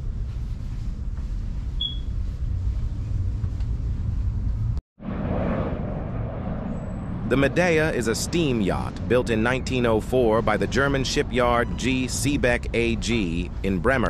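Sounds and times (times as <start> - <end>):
low steady rumbling: 0.0 - 14.0.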